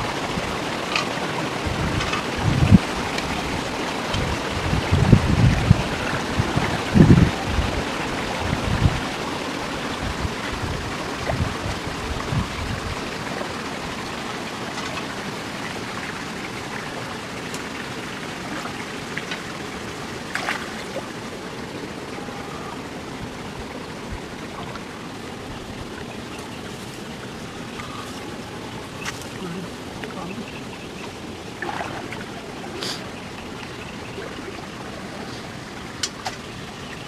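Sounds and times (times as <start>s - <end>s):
sloshing from wading: 0.0s - 37.0s
stream water splashing: 0.0s - 37.0s.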